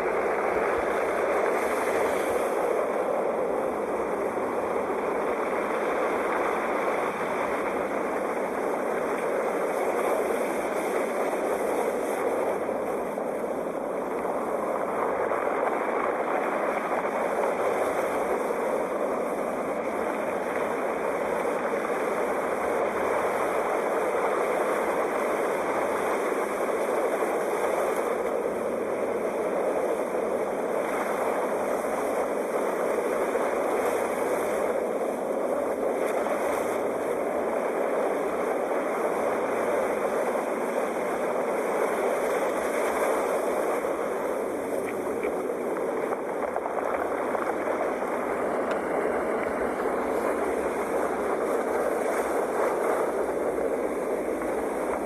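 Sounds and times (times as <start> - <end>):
ocean waves washing on shore: 0.0 - 55.0.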